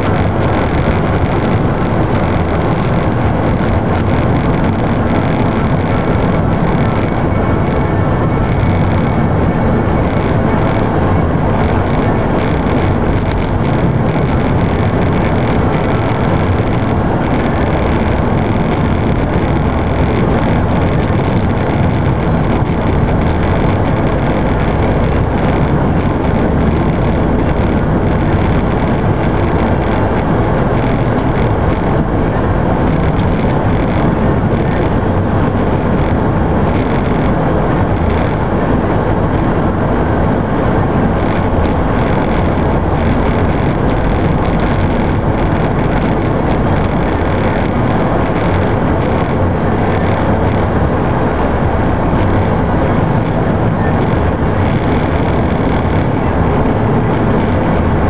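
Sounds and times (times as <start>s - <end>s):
car running heard from inside: 0.0s - 58.0s.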